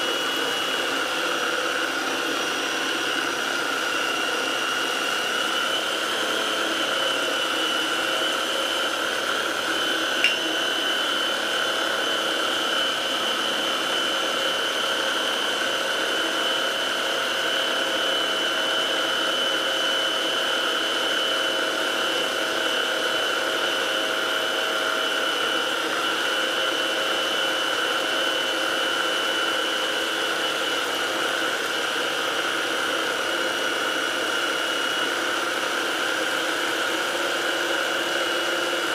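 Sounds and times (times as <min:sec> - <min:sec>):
food processor motor whining: 0:00.0 - 0:38.9.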